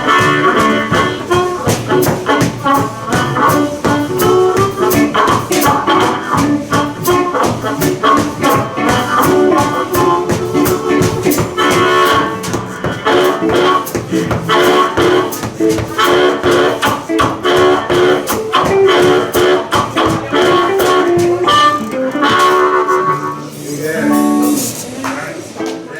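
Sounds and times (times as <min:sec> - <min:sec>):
harmonica: 0:00.0 - 0:25.0
drums beat: 0:00.0 - 0:25.9
electric guitars: 0:00.0 - 0:25.9.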